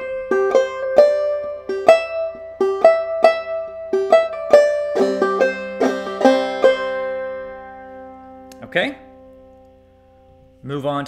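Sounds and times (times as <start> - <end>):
banjo plucked melody: 0.0 - 10.6.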